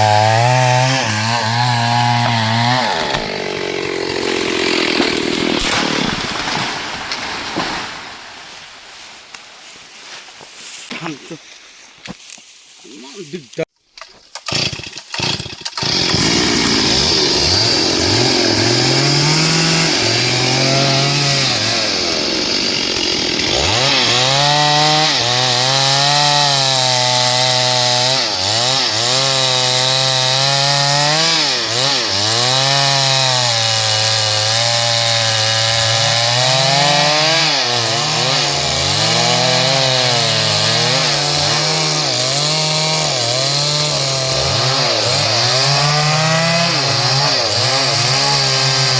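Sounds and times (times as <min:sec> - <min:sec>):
chainsaw cutting wood: 0:00.0 - 0:08.6, 0:14.0 - 0:48.9.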